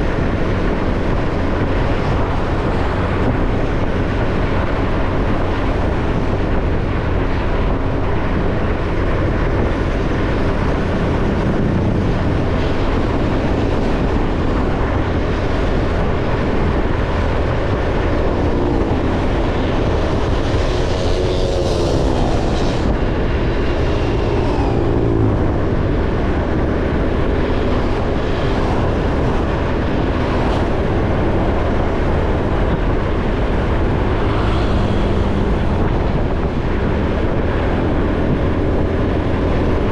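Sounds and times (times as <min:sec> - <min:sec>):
motorcycle engine running: 0:00.0 - 0:39.9
road and wind rumble: 0:00.0 - 0:39.9.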